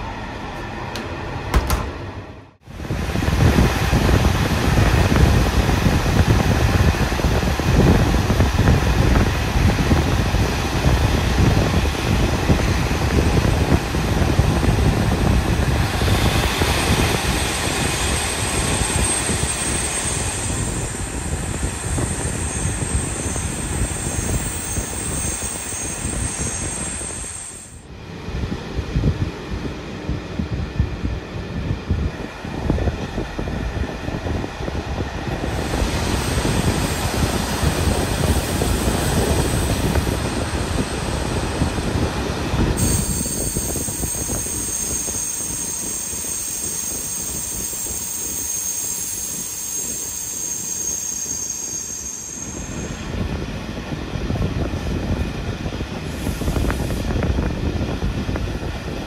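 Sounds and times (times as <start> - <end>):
rushing wind: 0.0 - 59.0
train wheels rumbling on track: 0.0 - 59.0.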